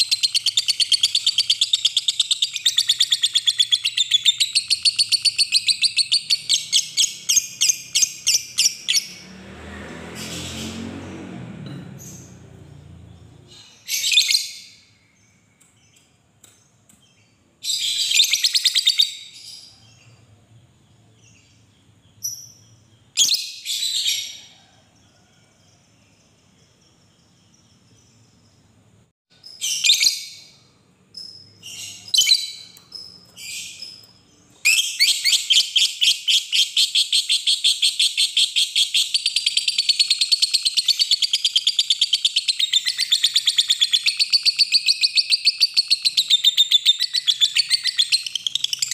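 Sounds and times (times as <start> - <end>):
lovebird chirping: 0.0 - 9.4, 12.0 - 28.7, 29.4 - 48.9.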